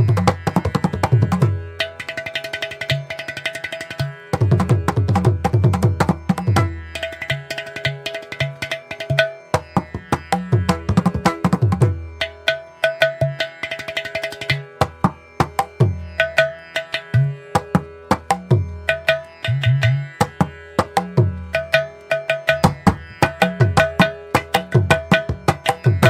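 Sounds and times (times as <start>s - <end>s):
tabla playing: 0.0s - 26.0s.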